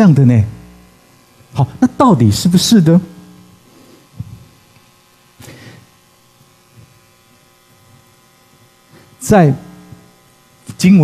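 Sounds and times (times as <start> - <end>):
faint sound system hum: 0.0 - 11.0.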